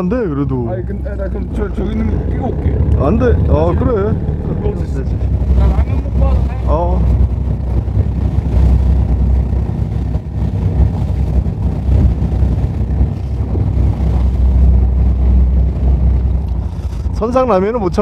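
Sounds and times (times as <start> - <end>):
boat engine rumble: 0.0 - 18.0
water rushing along hull: 0.0 - 18.0.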